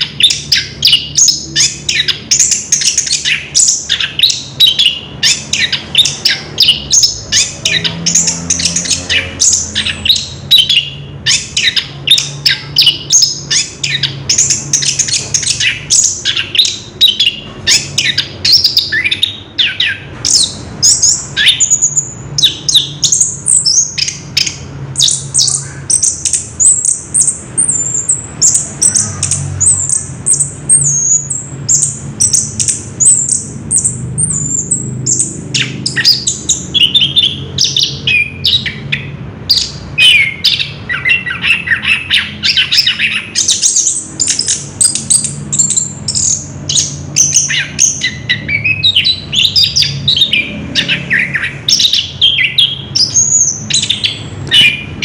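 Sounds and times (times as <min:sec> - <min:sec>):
thrush singing: 0:00.0 - 0:55.0.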